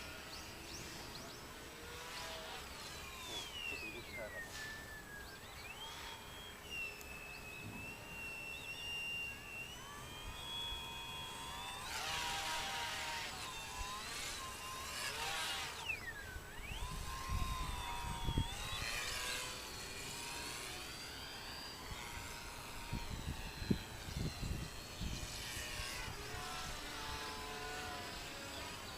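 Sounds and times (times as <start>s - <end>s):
model plane motor buzzing: 0.0s - 28.9s.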